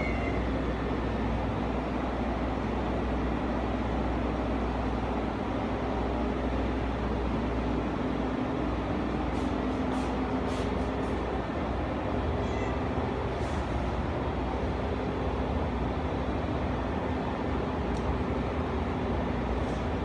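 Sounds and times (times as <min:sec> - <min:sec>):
machine hum and hiss: 0:00.0 - 0:20.0.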